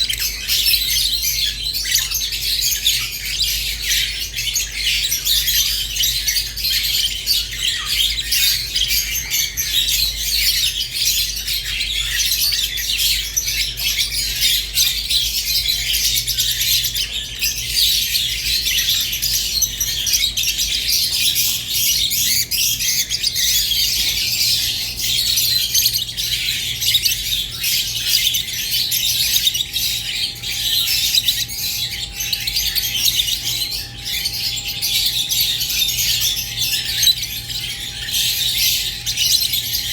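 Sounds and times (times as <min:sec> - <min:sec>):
lovebirds chirping and chattering: 0:00.0 - 0:39.9.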